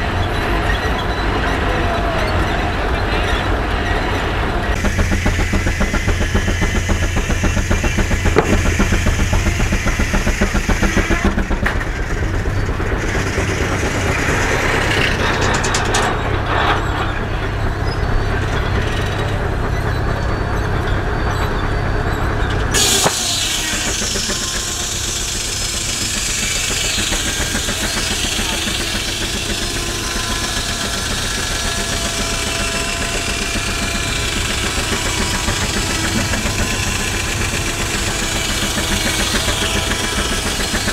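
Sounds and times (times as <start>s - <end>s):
sawmill engine pulsing: 0.0s - 40.9s.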